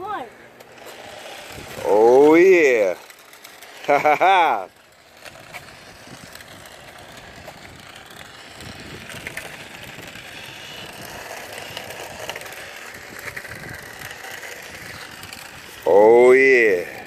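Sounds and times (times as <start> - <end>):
toy car motor whirring: 0.0 - 17.0.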